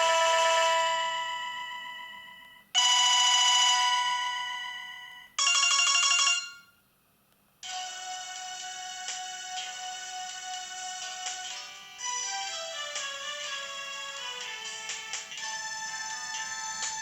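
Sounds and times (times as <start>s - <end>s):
phone chiming ringtone: 0.0s - 6.8s, 7.6s - 17.0s
quiet ringtone melody: 0.0s - 6.8s, 7.6s - 17.0s.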